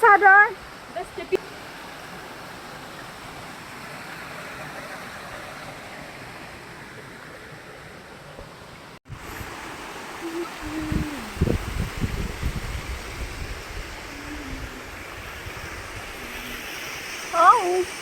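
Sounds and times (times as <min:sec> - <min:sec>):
waterfall rushing water: 0:00.1 - 0:18.0.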